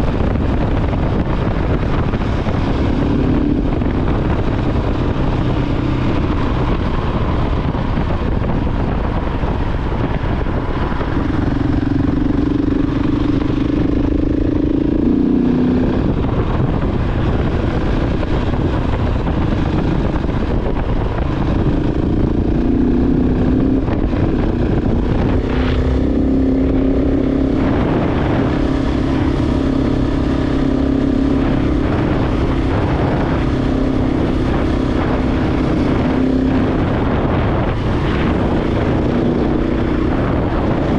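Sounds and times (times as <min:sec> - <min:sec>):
heavy wind: 0:00.0 - 0:40.9
motorcycle engine running: 0:00.0 - 0:40.9
road rumble: 0:00.0 - 0:40.9.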